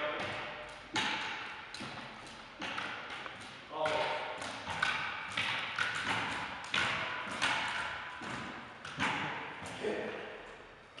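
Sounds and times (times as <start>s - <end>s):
stilts thudding on gym floor: 0.0s - 10.0s.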